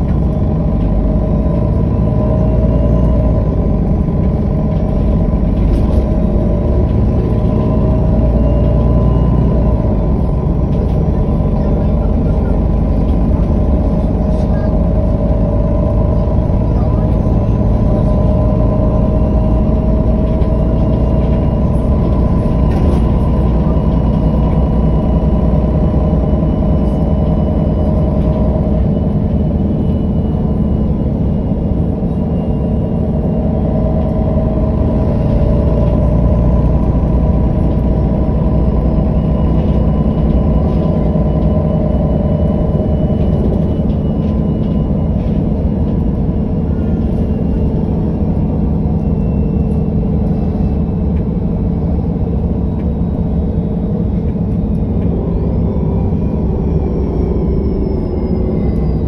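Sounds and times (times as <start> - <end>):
bus diesel engine running: 0.0 - 59.0
steady whining tone: 0.0 - 59.0.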